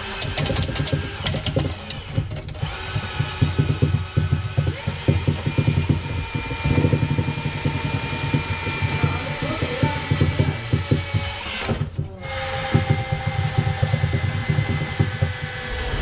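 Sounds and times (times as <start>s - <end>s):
drain auger cable rattling: 0.0s - 15.6s.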